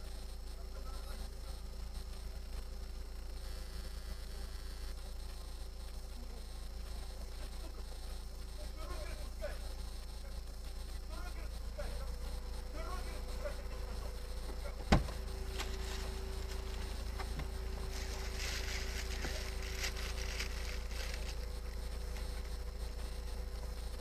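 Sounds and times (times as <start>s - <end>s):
car interior hum: 0.0s - 24.0s
faint ticks: 0.0s - 24.0s.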